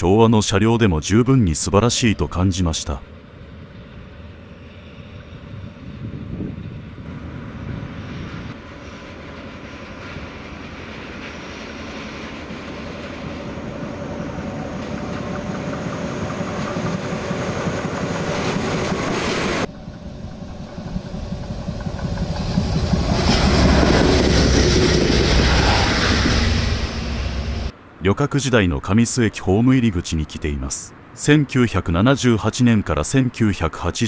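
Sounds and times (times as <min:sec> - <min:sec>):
diesel train passing: 0:00.0 - 0:28.2.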